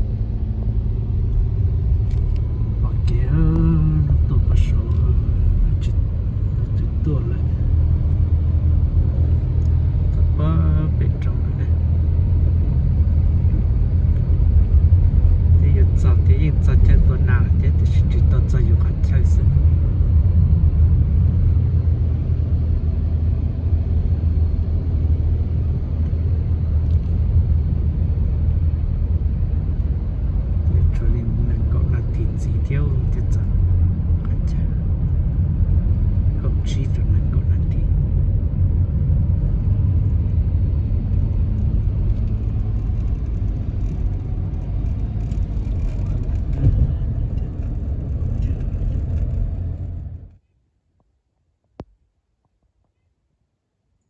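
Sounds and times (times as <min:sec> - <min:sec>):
steady low rumble: 0:00.0 - 0:50.4.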